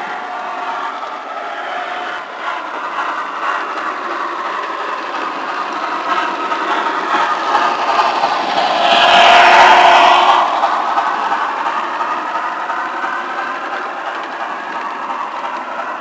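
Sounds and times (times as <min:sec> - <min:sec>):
model train rattling: 0:00.0 - 0:16.0.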